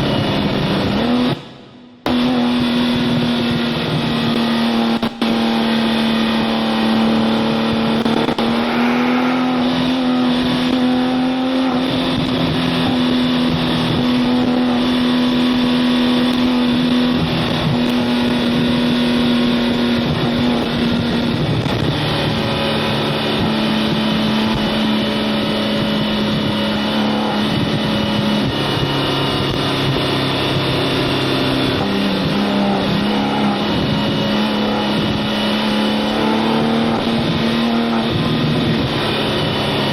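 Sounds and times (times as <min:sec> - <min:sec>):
car engine driving: 0:00.0 - 0:39.9
road and wind noise: 0:00.0 - 0:39.9.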